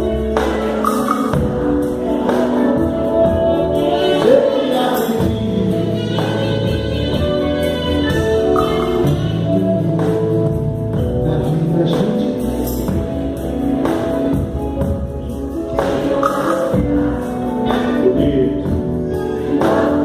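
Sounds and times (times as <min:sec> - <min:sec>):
live band with singing: 0:00.0 - 0:20.0.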